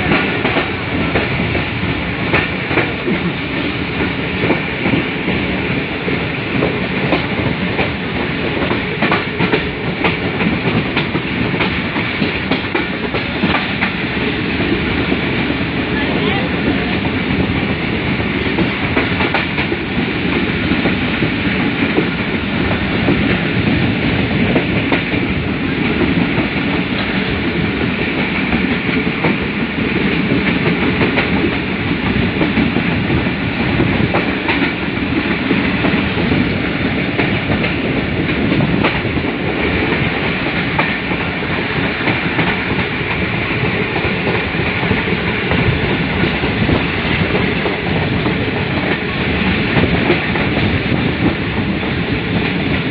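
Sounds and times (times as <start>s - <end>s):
train wheels clacking on track: 0.0s - 52.9s.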